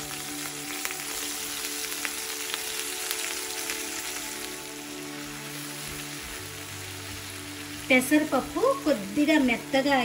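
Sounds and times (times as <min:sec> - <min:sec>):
lentils sizzling in oil: 0:00.0 - 0:10.0.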